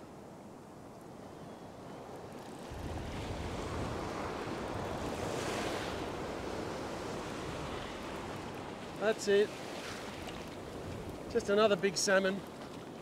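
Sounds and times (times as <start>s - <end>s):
ocean surf breaking: 2.2s - 12.9s.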